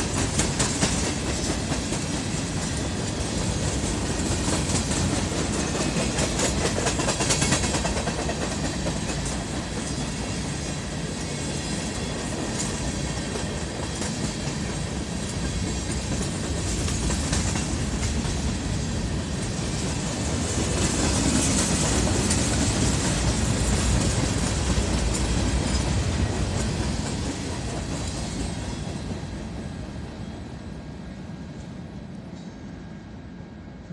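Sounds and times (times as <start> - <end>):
freight train wheels on rails: 0.0 - 33.9.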